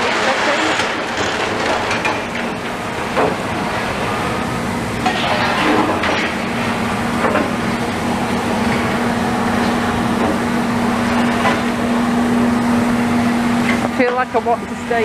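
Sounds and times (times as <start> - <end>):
machinery engine hum: 0.0 - 15.0.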